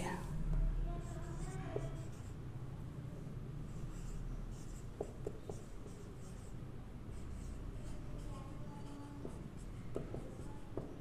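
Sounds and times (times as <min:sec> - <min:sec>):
marker scratching on whiteboard: 0:00.9 - 0:02.5, 0:03.7 - 0:11.0.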